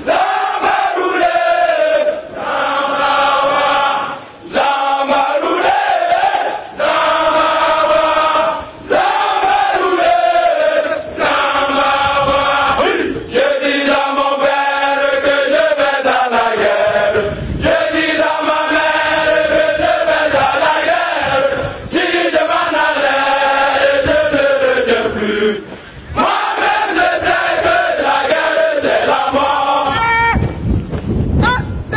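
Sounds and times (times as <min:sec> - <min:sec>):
men chanting in unison: 0:00.0 - 0:30.0.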